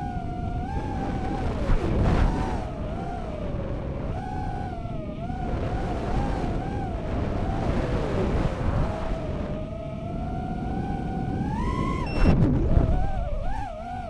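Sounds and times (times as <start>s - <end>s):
drone motors whining: 0.0s - 14.0s
wind rumble: 0.0s - 14.0s.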